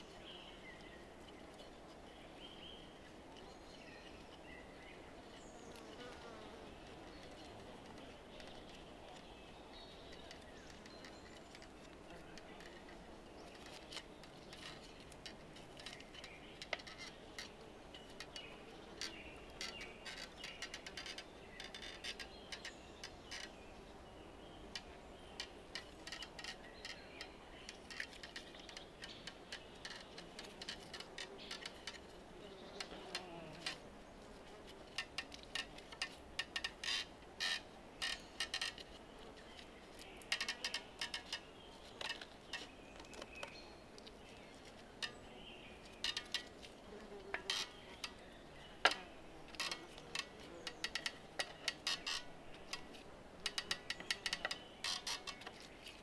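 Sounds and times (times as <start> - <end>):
light clicks of wooden parts: 0.0 - 23.6, 24.6 - 56.0.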